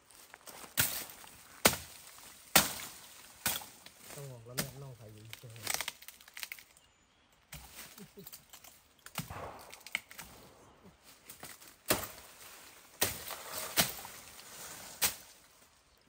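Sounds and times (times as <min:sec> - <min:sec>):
bamboo and leaves rustling: 0:00.0 - 0:16.0
sharp bamboo cracks: 0:00.6 - 0:15.5.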